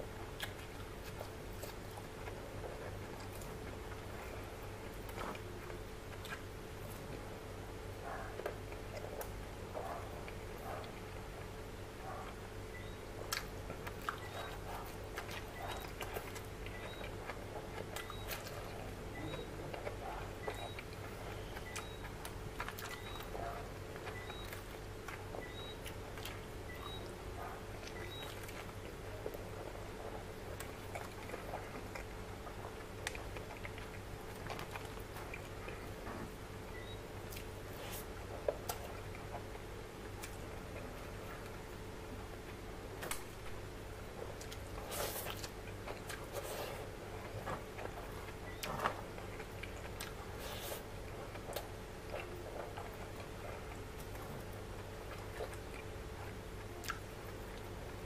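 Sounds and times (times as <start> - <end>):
faint steady hum: 0.0 - 58.0
mouth chewing wet smacks: 0.4 - 4.1, 12.1 - 41.8, 44.2 - 58.0.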